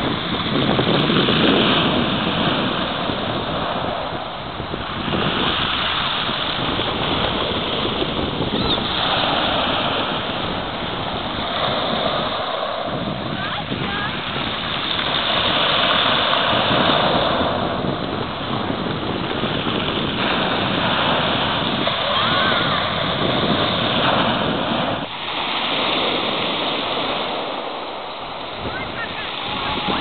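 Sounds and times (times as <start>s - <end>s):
waves breaking ashore: 0.0s - 30.0s.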